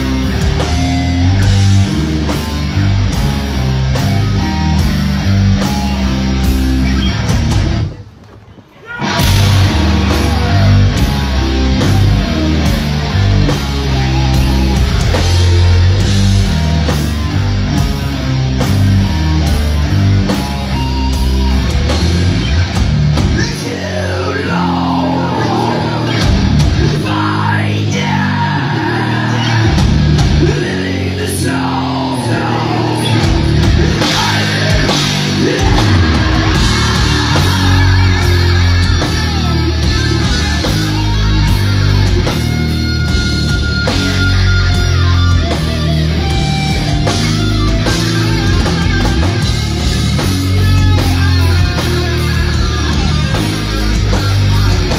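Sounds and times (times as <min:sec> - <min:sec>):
death metal band playing: 0:00.0 - 0:08.0, 0:08.9 - 0:54.9
harsh yelled vocals: 0:08.7 - 0:54.9.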